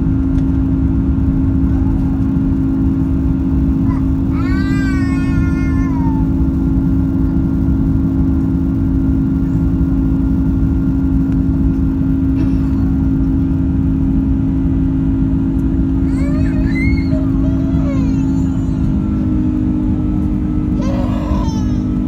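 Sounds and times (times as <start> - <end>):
airliner cabin roar: 0.0 - 22.0.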